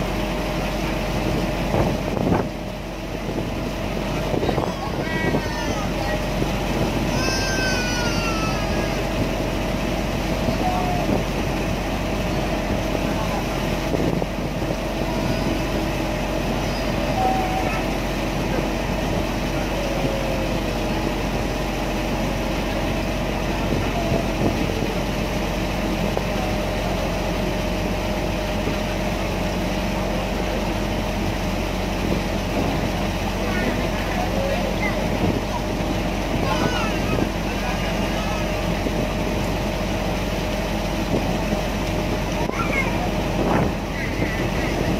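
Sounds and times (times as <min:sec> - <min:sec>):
ferry engine humming: 0:00.0 - 0:44.9.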